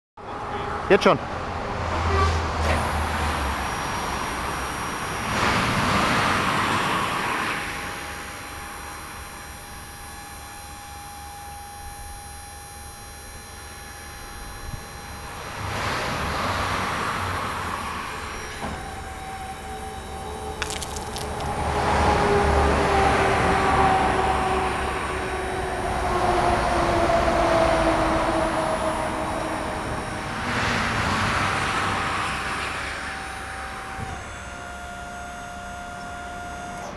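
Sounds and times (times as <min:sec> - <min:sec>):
thin steady whine: 0:02.7 - 0:36.9.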